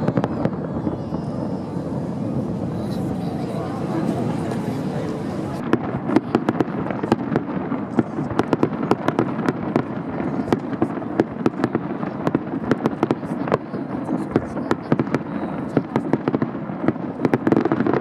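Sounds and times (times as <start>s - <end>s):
crowd voices: 0.0s - 18.0s
fireworks popping and crackling: 0.0s - 18.0s.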